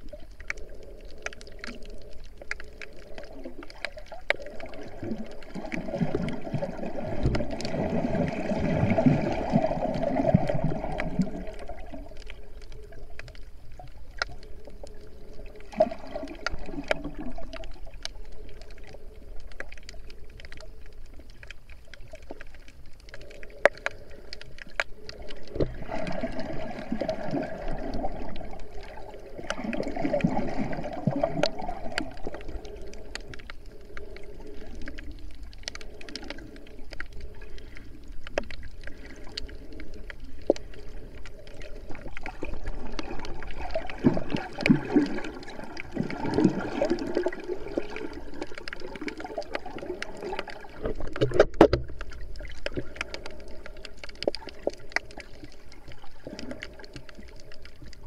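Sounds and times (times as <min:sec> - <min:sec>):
muffled underwater water noise: 0:00.0 - 0:58.0.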